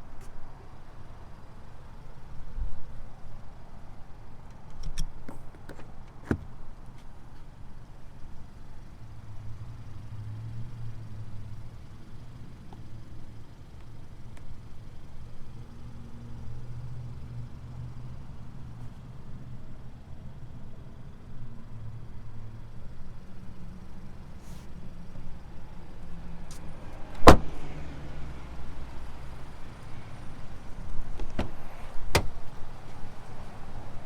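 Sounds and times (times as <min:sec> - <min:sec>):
car low steady hum: 0:00.0 - 0:34.0.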